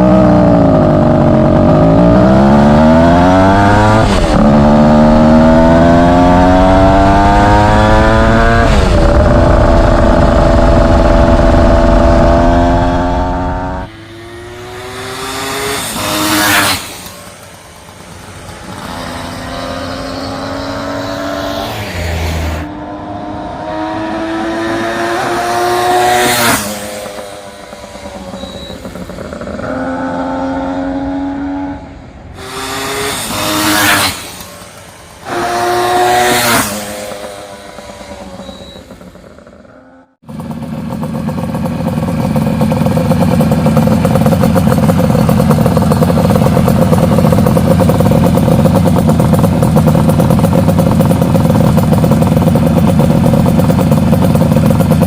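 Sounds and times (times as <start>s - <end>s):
motorcycle engine passing: 0.0s - 55.0s.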